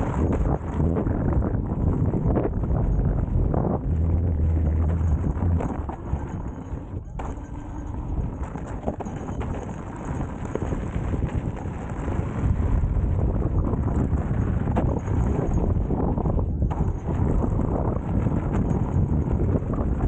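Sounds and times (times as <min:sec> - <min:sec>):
steady low hum: 0:00.0 - 0:20.0
tyre rolling on loose gravel: 0:00.0 - 0:20.0
wind buffeting microphone: 0:00.0 - 0:20.0.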